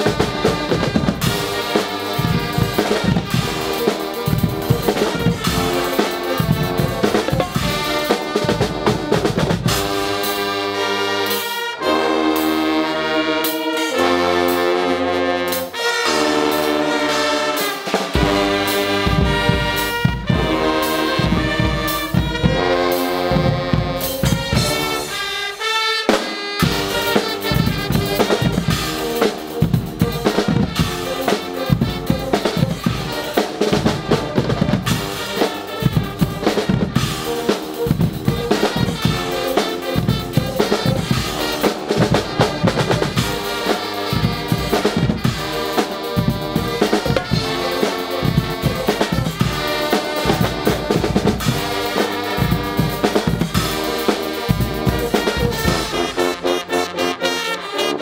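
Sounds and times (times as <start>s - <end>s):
drum kit and bass drum beat: 0.0s - 57.5s
brass lines: 0.0s - 58.0s.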